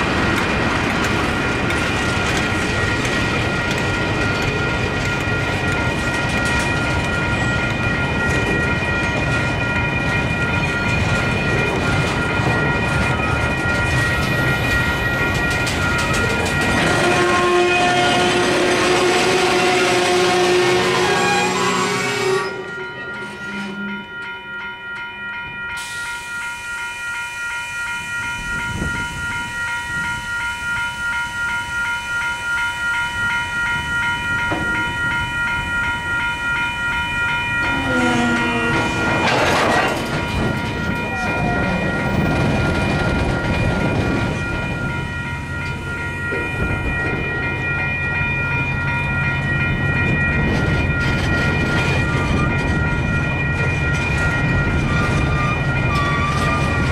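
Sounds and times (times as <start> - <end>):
train wheels clicking on rails: 0.0 - 23.6, 28.3 - 56.9
diesel locomotive engines whining: 0.0 - 56.9.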